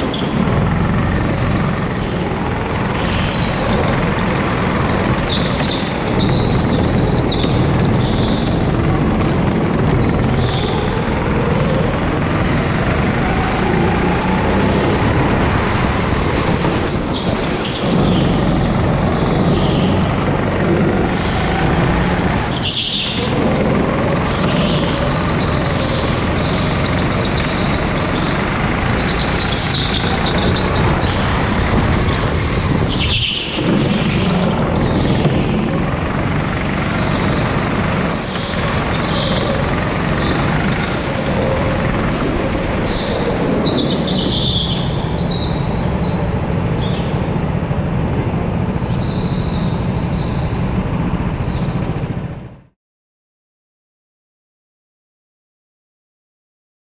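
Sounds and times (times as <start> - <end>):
go-kart engine revving: 0.0 - 52.7.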